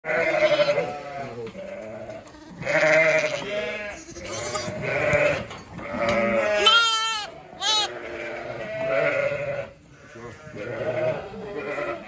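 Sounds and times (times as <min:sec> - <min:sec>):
lambs bleating: 0:00.1 - 0:12.0.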